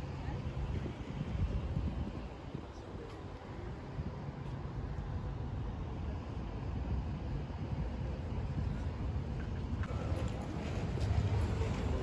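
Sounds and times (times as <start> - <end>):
city street low rumble: 0.0 - 12.0.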